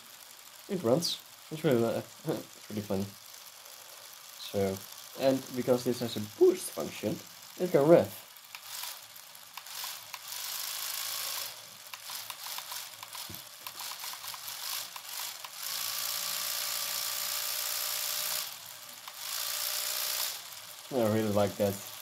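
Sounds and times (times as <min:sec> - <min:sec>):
model engine sound revving: 0:00.0 - 0:22.0
rapid even ticking idle: 0:00.1 - 0:22.0.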